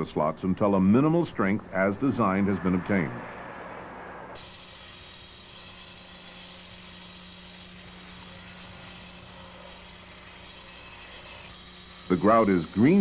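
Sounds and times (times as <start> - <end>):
faint roadwork machinery engine drone: 0.0 - 13.0.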